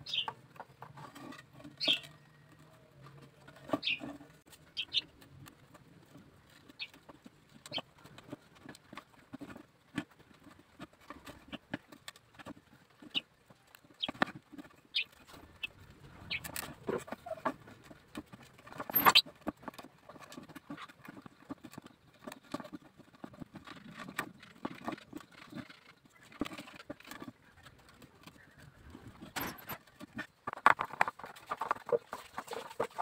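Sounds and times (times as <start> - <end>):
bamboo cage parts clicking: 0.0 - 33.0.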